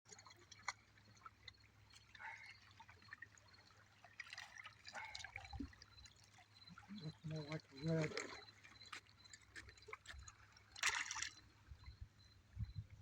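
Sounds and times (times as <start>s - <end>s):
water splashing and dripping: 0.1s - 11.4s.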